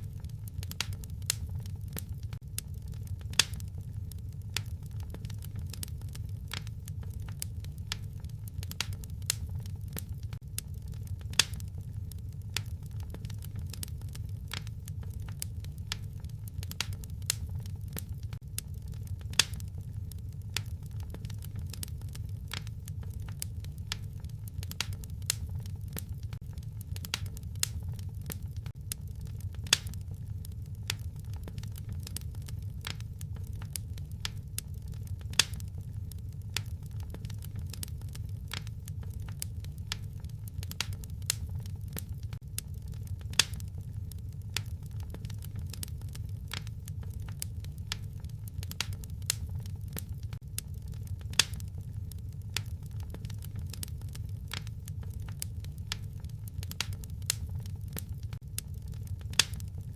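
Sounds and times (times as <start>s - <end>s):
low steady rumble: 0.0s - 59.9s
wood fire crackling: 0.0s - 59.9s.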